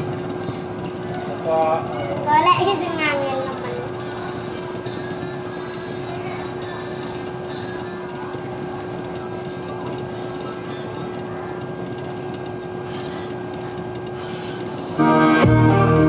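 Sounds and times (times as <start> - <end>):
steady background hum and hiss: 0.0 - 16.0.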